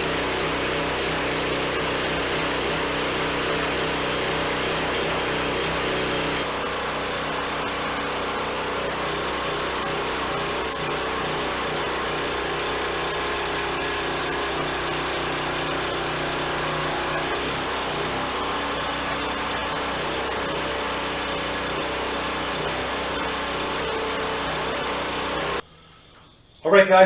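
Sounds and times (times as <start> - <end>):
small gasoline engine running: 0.0 - 25.7.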